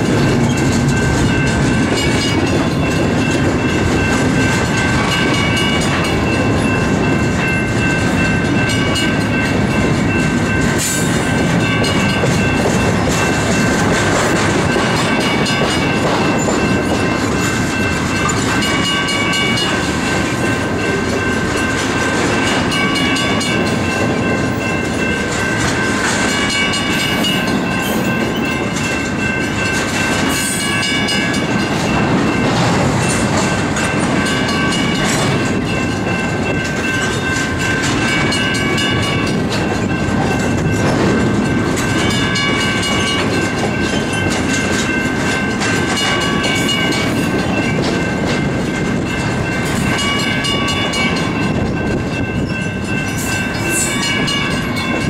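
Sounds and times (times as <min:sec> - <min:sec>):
train cars rumbling: 0:00.0 - 0:55.0
wheel clatter over rail joints: 0:00.0 - 0:55.0.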